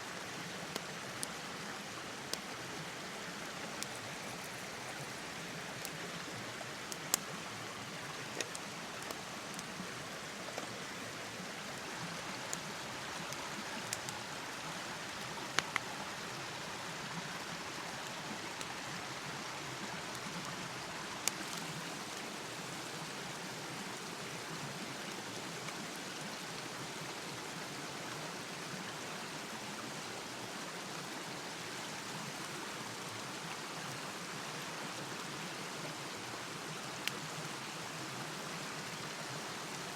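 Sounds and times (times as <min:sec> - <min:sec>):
rushing stream water: 0:00.0 - 0:39.9
steady rain: 0:00.0 - 0:39.9.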